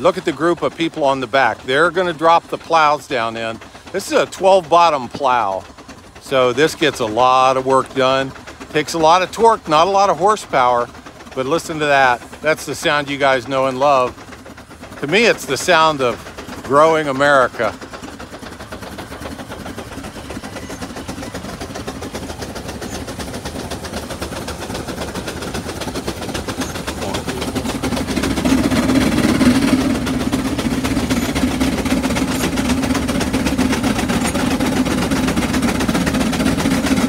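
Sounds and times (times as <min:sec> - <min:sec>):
steam engine exhaust chuffing: 0:00.0 - 0:37.0.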